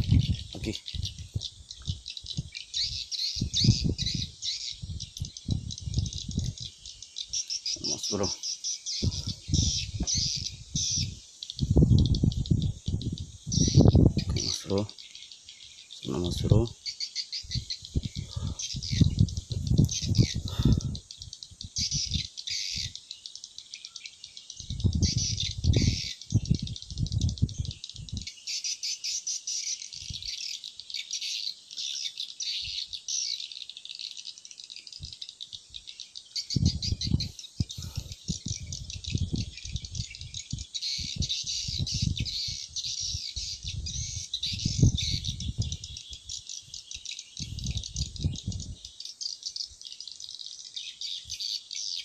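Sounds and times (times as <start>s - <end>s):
birds chirping: 0.0s - 52.0s
insects trilling: 0.0s - 52.0s.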